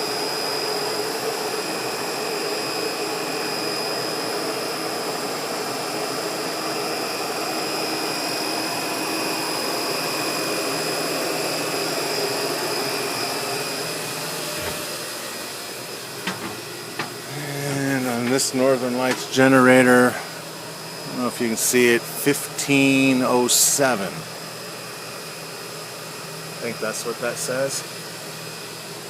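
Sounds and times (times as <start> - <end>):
thin high whine: 0.0 - 24.4
diesel generator running: 0.0 - 24.8.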